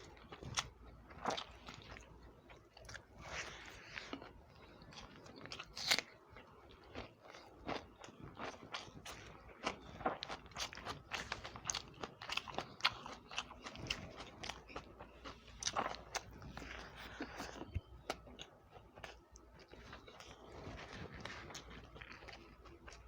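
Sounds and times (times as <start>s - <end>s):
person chewing and biting food: 0.0s - 23.0s.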